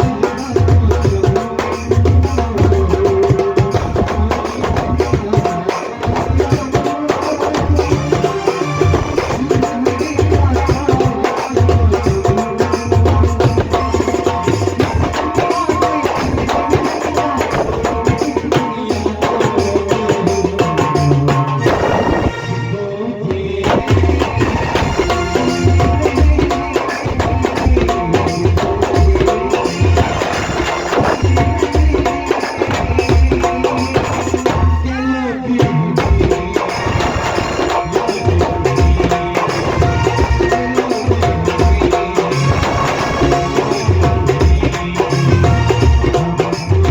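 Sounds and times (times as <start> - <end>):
fast percussion beat: 0.0 - 22.5, 23.5 - 46.9
folk song music: 3.8 - 20.3, 21.4 - 46.9.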